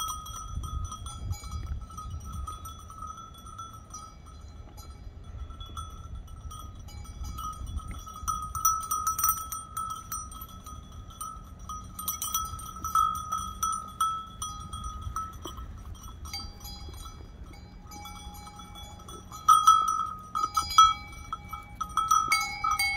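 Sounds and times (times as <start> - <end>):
sheep bell clinking: 0.0 - 22.9.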